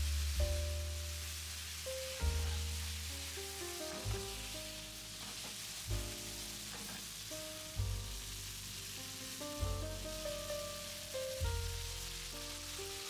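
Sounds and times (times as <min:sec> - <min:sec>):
food sizzling in a frying pan: 0:00.0 - 0:13.0
soft background music with beat: 0:00.0 - 0:13.0.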